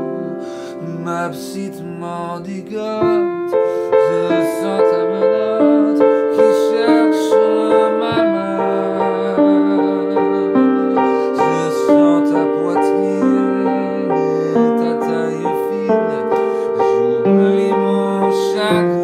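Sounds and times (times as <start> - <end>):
slow solo piano melody: 0.0 - 19.0.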